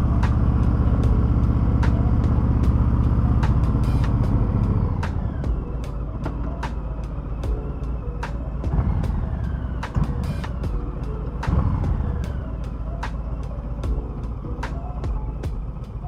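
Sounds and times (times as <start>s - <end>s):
background music with steady beat: 0.0s - 16.0s
motorcycle engine revving: 0.0s - 16.0s.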